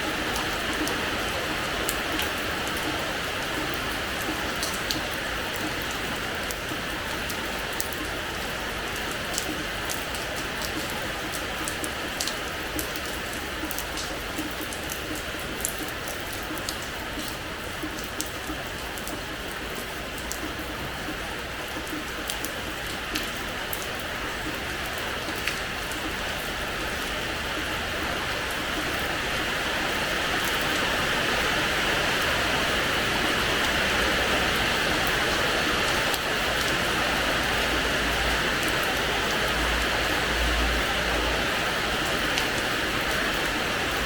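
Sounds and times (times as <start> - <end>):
rain on a hard floor: 0.0 - 44.0
raindrops dripping and splashing: 0.0 - 44.0.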